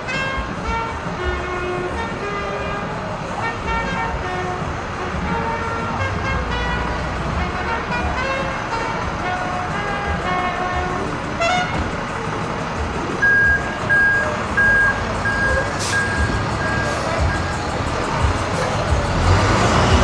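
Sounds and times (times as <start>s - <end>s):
low street rumble: 0.0s - 20.0s.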